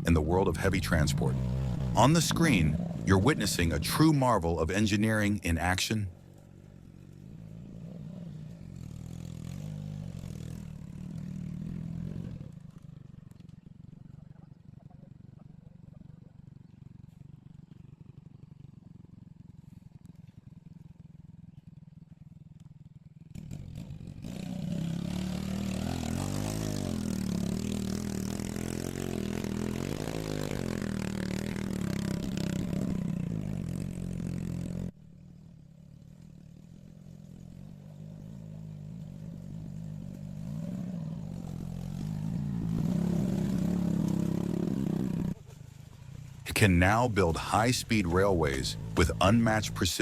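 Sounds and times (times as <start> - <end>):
quieter engine: 0.0 - 50.0.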